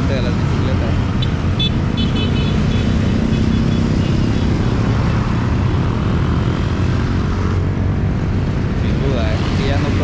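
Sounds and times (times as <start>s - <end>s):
motorcycle engines droning: 0.0s - 10.0s.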